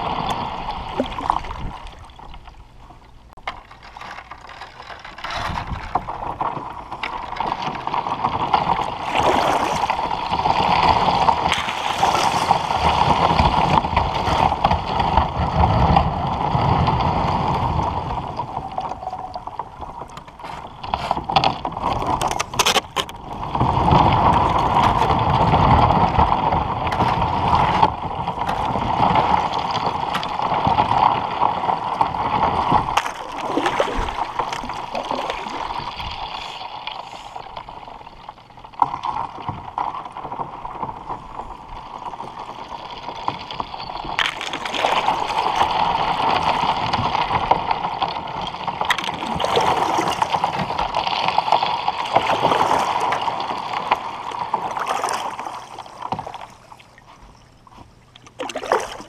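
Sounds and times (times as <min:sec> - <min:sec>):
water lapping: 0:00.0 - 0:15.5, 0:16.4 - 0:59.0
ice scraping against kayak hull: 0:03.4 - 0:59.0.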